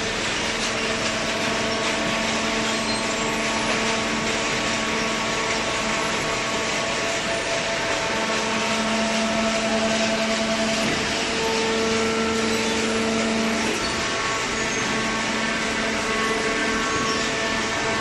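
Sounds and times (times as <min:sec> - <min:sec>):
baler machine hum: 0:00.1 - 0:18.0.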